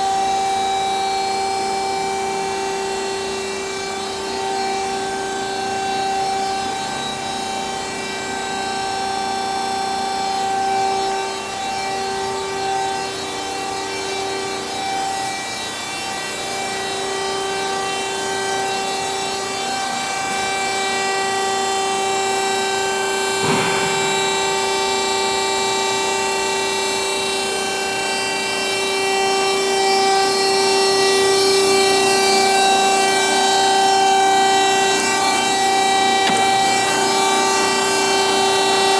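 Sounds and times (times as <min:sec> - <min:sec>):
band saw whining: 0:00.0 - 0:38.9.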